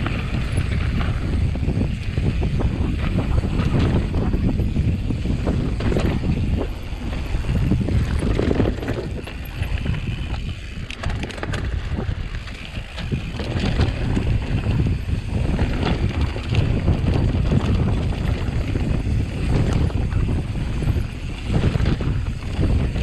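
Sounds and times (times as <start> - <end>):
bike knocking and rattling: 0.0 - 23.0
wind buffeting microphone: 0.0 - 23.0.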